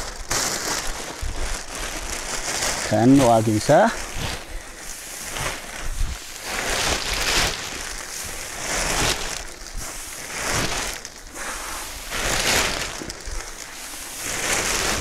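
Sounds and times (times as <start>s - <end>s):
straw and plastic bag rustling: 0.0s - 15.0s.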